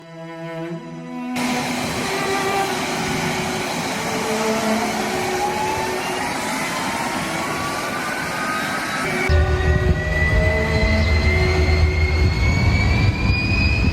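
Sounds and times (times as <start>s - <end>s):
jet engine whine rising: 1.4s - 13.9s
jet engines roaring: 1.4s - 13.9s.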